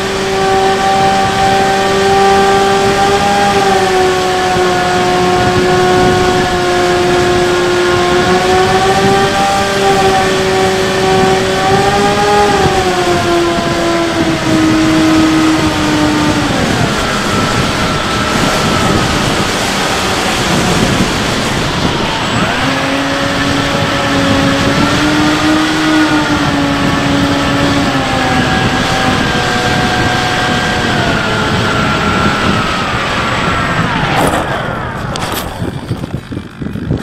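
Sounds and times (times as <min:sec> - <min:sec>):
electric propeller motor whining: 0:00.0 - 0:37.0
wind rush: 0:00.0 - 0:37.0.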